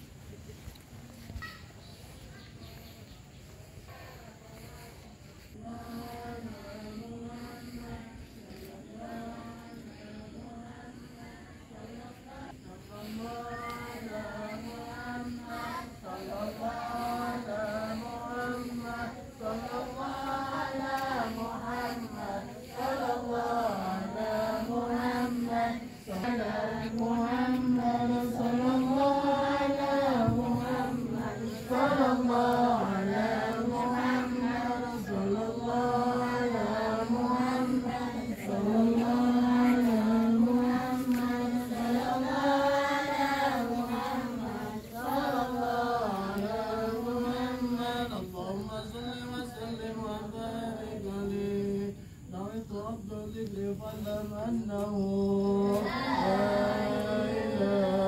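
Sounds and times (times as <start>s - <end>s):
person chanting: 4.0s - 58.0s.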